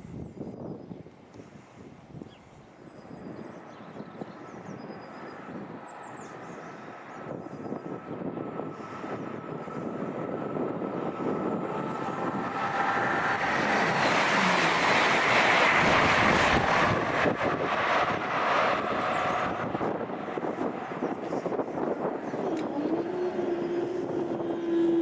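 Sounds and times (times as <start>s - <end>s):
wind buffeting microphone: 0.0s - 25.0s
high-speed train passing: 2.6s - 25.0s.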